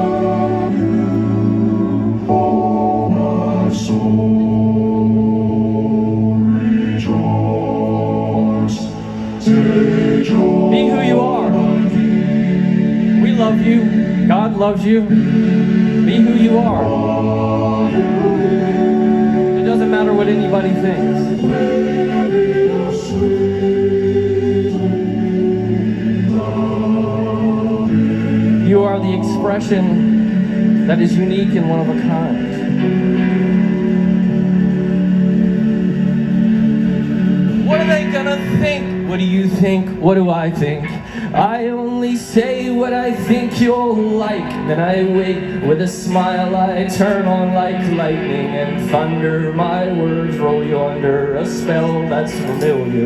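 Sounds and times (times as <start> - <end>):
live band playing sustained chords: 0.0 - 53.0.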